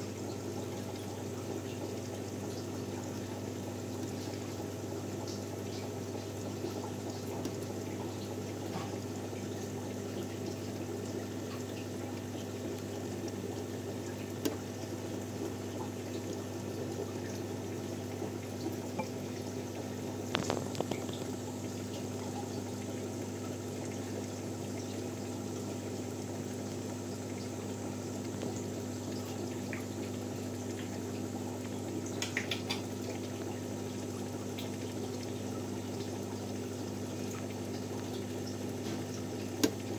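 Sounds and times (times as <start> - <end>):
aquarium pump bubbling water: 0.0 - 39.9
low pump hum: 0.0 - 39.9.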